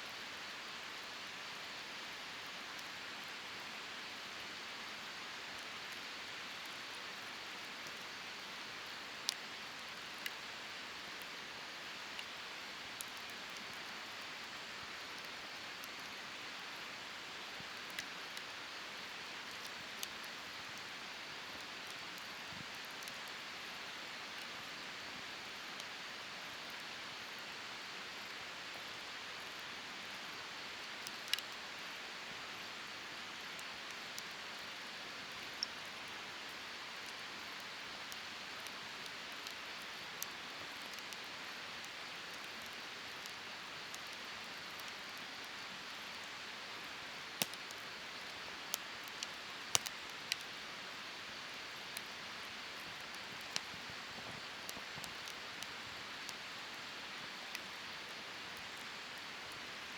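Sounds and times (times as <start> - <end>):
fire crackles and pops: 5.0 - 27.4, 29.4 - 59.9.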